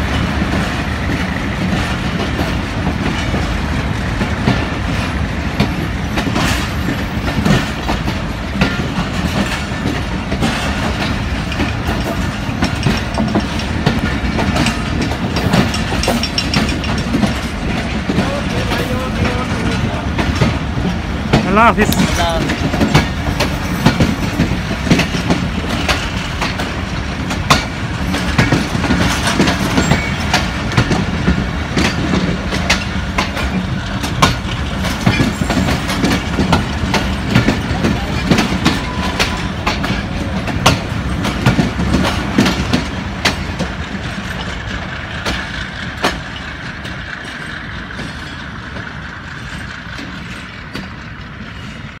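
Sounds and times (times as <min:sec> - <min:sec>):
steady train rumble: 0:00.0 - 0:52.0
train wheels clacking over rail joints: 0:00.0 - 0:52.0.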